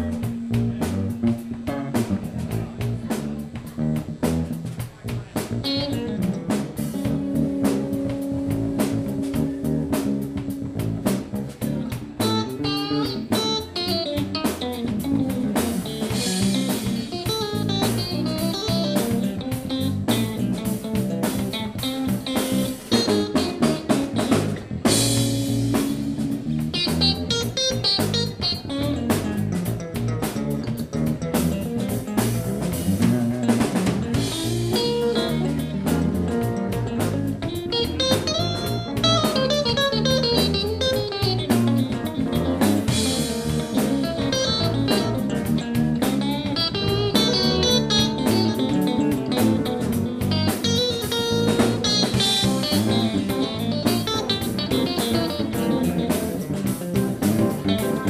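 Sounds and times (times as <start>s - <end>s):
drum kit groove: 0.0s - 58.0s
electric bass: 0.0s - 58.0s
electric guitar lead runs: 0.0s - 58.0s.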